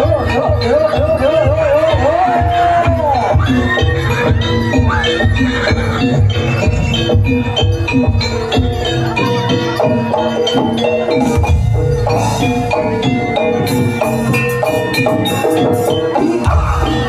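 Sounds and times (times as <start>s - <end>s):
drums and percussion: 0.0s - 17.0s
metallophone notes: 0.0s - 17.0s.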